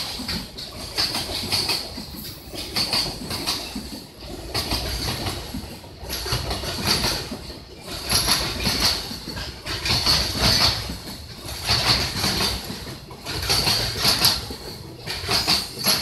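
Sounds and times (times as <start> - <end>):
train wheels clattering over rail joints: 0.0 - 16.0.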